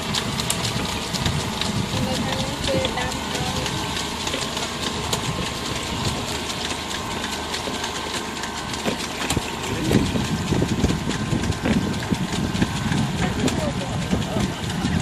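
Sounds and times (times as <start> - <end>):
engine running: 0.0 - 15.0
rapid clicking clatter: 0.0 - 15.0.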